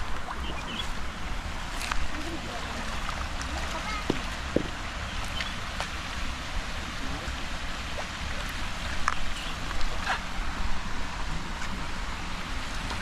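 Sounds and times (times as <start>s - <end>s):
knocks and splashes from wading: 0.0s - 13.0s
stream water running over rocks: 0.0s - 13.0s.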